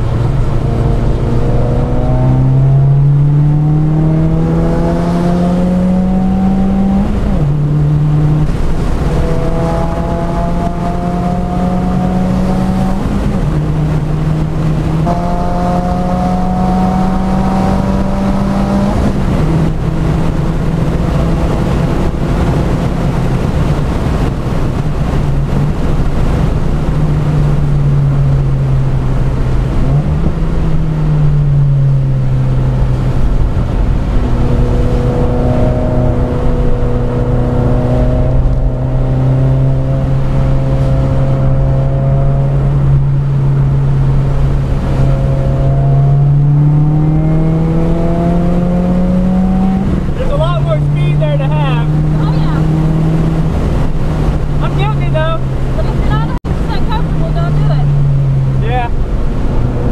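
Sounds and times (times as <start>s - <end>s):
car engine revving hard: 0.0s - 59.9s
tyre noise on wet road: 5.8s - 59.9s.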